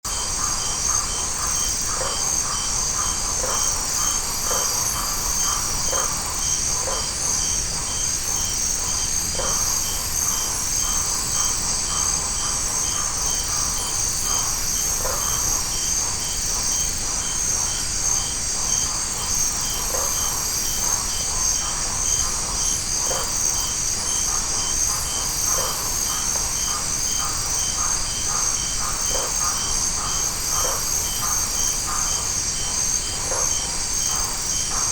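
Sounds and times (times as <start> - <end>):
crickets droning: 0.1 - 34.9
regular insect chirp: 0.1 - 34.9
short lower insect calls: 0.1 - 34.9.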